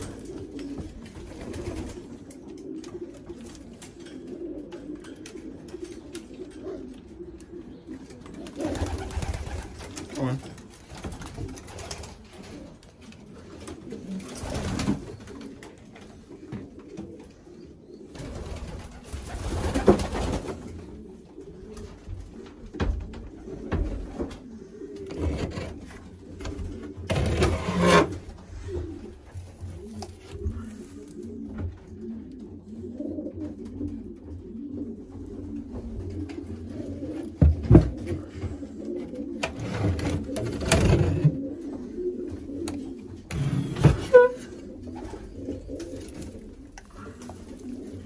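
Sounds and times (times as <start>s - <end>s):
pigeons cooing: 0.0s - 48.0s.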